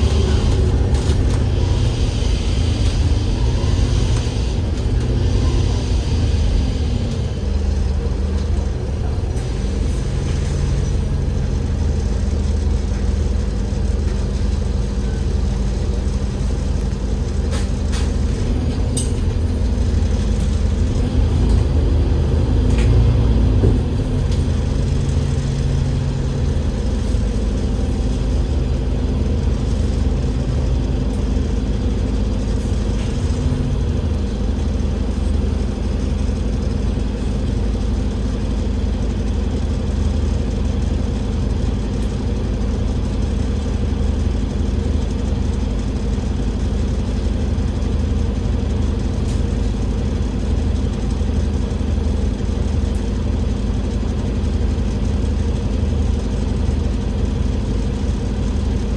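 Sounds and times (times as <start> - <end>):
bus engine drone: 0.0 - 58.9.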